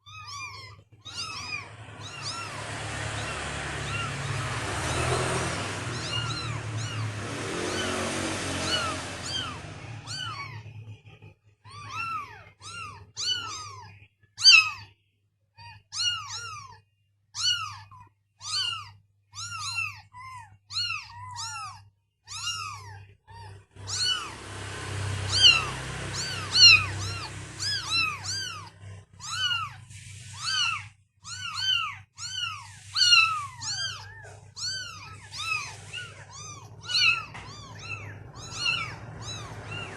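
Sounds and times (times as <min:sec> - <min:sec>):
kittens mewing: 0:00.0 - 0:15.0, 0:15.6 - 0:39.9.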